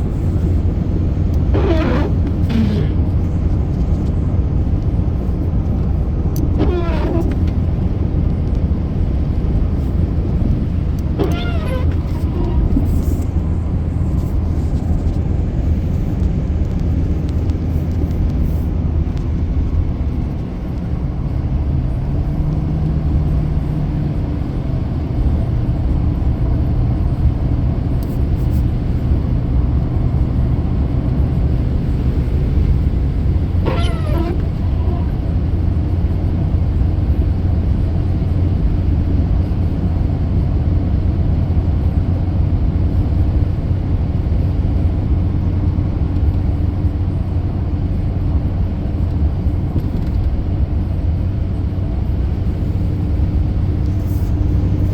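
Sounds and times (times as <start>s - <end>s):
car engine and road rumble: 0.0s - 54.9s.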